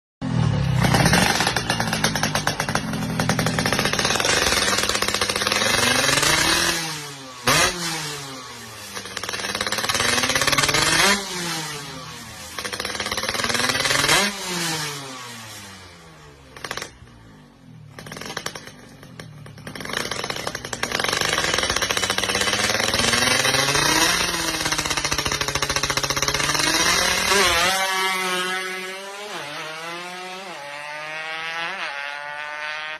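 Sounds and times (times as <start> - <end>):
two-stroke engine revving: 0.2 - 32.9.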